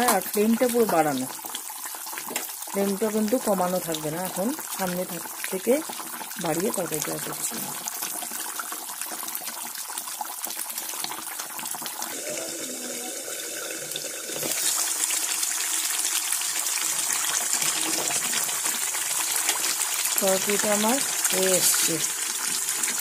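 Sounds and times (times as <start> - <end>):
curry boiling and spitting: 0.0 - 23.0.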